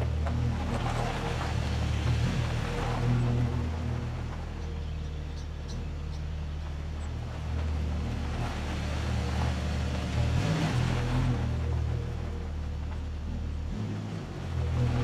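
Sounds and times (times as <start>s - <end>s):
background music: 0.0s - 15.0s
vehicle engine running: 0.0s - 15.0s.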